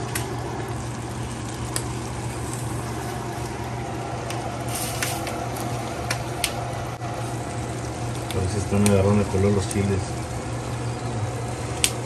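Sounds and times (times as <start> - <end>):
low steady hum: 0.0 - 12.0
sausage sizzling in a pan: 0.0 - 12.0.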